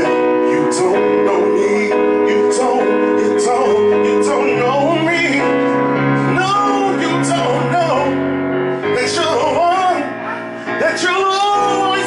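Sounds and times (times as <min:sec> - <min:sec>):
digital piano chords: 0:00.0 - 0:12.0
man singing with vibrato: 0:00.0 - 0:12.0.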